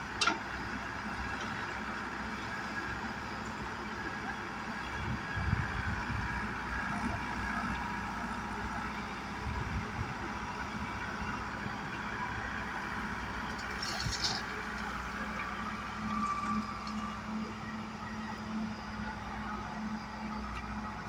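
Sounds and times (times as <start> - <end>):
diesel engines running: 0.0 - 21.0.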